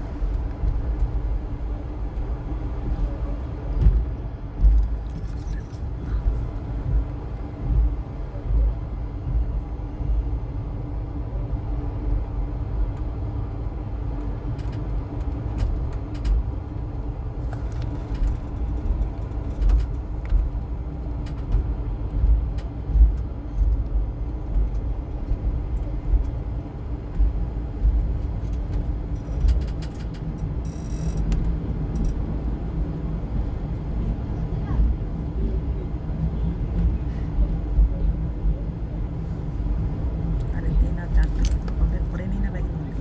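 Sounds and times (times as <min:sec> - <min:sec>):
train coach rumbling on track: 0:00.0 - 0:43.0.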